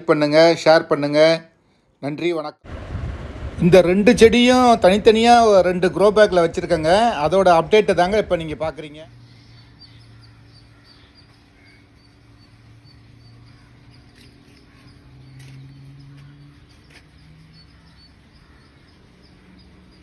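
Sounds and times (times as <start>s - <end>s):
steady low hum: 2.7s - 20.0s.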